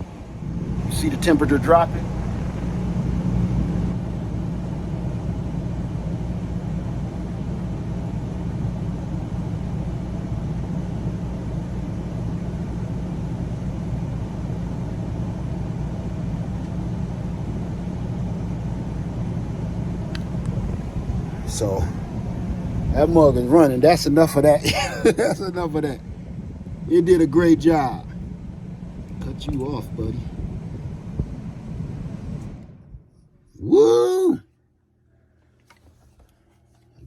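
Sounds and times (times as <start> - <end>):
air conditioner humming: 0.0 - 37.0.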